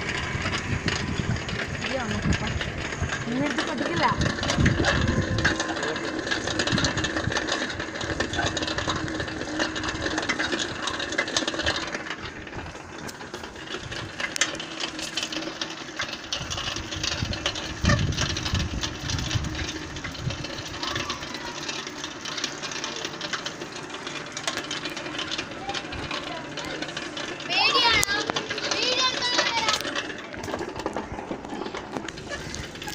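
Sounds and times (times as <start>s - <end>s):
bicycle rattling and clicking: 0.0s - 32.9s
road rumble: 0.0s - 32.9s.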